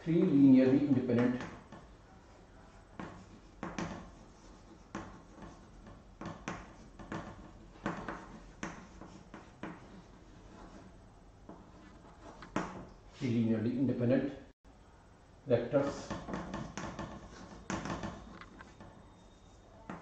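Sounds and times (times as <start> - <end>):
chalk tapping and scraping: 0.2 - 13.3, 15.8 - 20.0.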